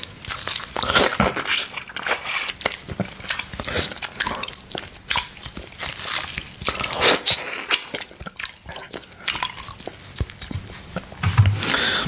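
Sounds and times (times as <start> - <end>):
biting and chewing: 0.0 - 12.0
wet mouth eating sounds: 0.0 - 12.0.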